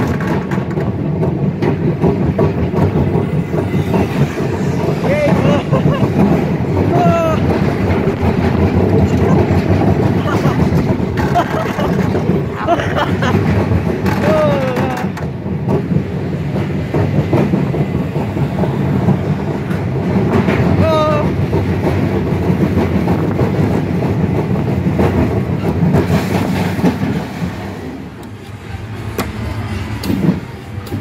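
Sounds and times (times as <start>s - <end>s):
roller coaster rattling rumble: 0.0s - 31.0s.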